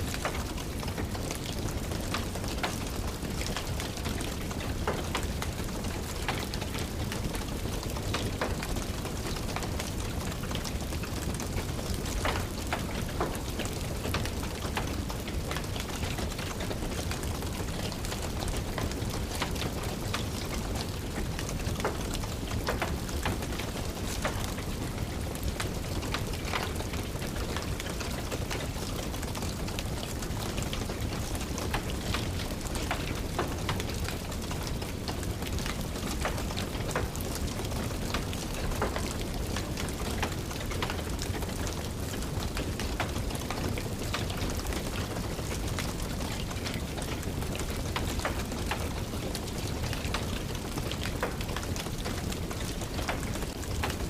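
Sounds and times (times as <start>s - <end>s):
fire crackling and popping: 0.0s - 54.0s
steady rain: 0.0s - 54.0s.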